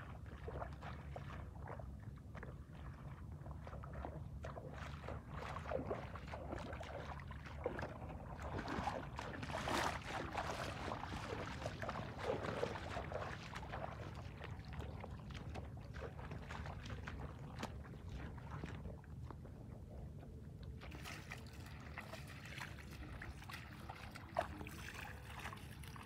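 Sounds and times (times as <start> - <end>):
steady low rumble: 0.0 - 26.0
feet squelching through mud: 3.6 - 19.4, 20.8 - 26.0.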